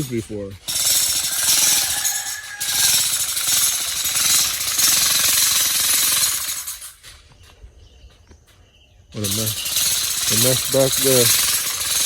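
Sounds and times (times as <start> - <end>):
jackhammer breaking rock: 0.0 - 7.0, 9.2 - 12.0.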